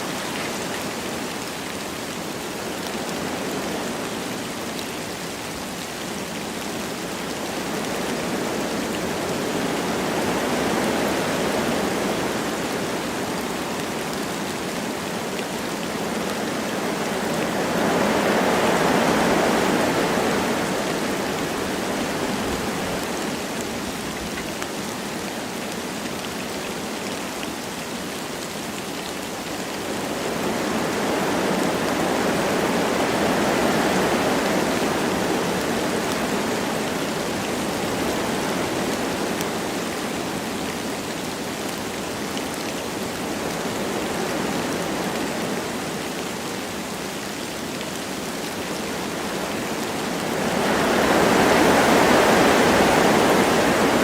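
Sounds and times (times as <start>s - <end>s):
light rain: 0.0s - 54.0s
wind through trees: 0.0s - 54.0s.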